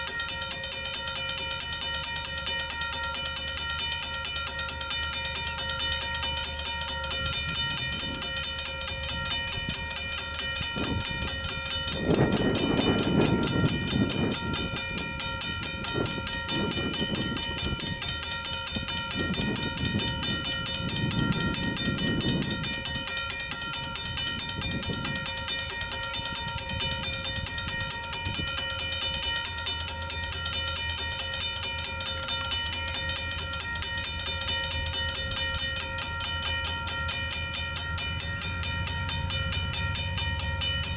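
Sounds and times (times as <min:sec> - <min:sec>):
level crossing bell ringing: 0:00.0 - 0:40.9.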